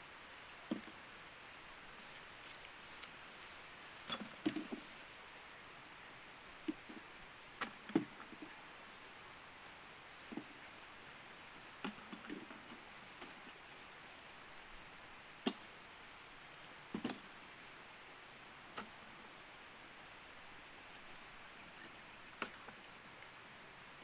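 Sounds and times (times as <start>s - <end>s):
faint high hiss: 0.0s - 24.0s
rustling in dry leaves: 0.0s - 24.0s.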